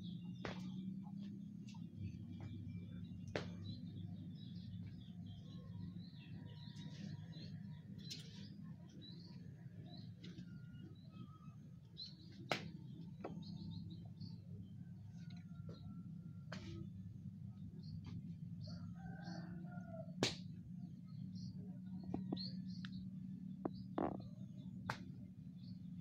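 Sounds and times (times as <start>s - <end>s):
small birds chirping: 0.0s - 20.0s, 20.8s - 26.0s.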